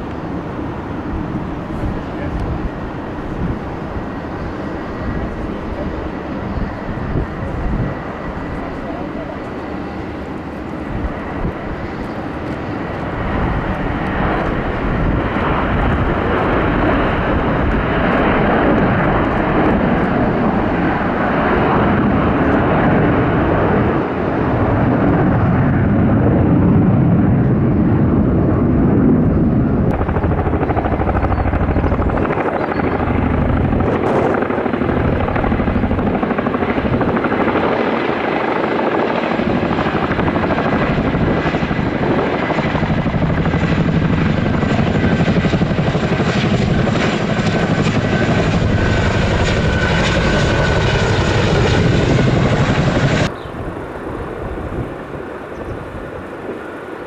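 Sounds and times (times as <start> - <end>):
helicopter rotors beating: 0.0 - 57.0
jet airliner engines at takeoff: 0.0 - 57.0.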